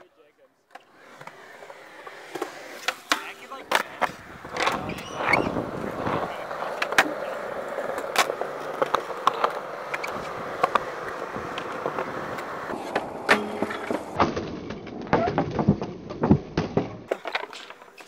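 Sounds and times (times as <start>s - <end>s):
skateboard rolling on concrete: 0.0s - 18.0s
skateboard clack: 0.7s - 18.0s.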